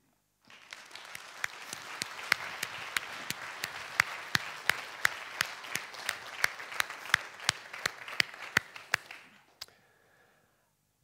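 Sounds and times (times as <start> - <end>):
audience applauding: 0.5 - 9.5
close hand claps: 0.5 - 9.8.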